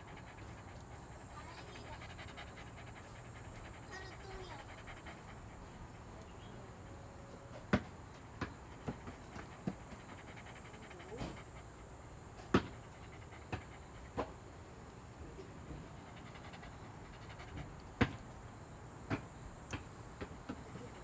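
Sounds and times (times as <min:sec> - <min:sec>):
dog panting softly: 0:00.0 - 0:21.0.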